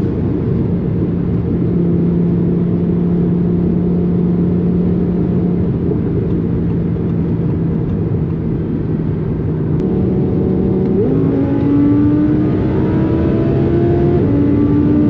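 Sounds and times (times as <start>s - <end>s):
car engine running: 0.0s - 15.0s
road and wind noise: 0.0s - 15.0s.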